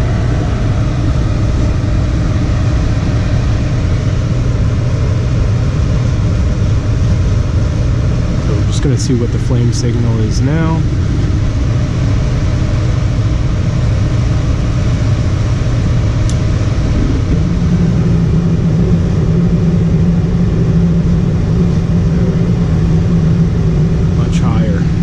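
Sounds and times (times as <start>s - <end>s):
gas furnace rumble and hum: 0.0s - 25.0s.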